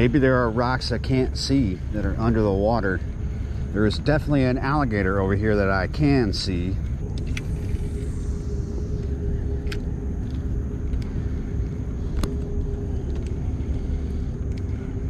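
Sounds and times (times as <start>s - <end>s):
constant hum: 0.0s - 15.0s
low engine rumble: 0.0s - 15.0s.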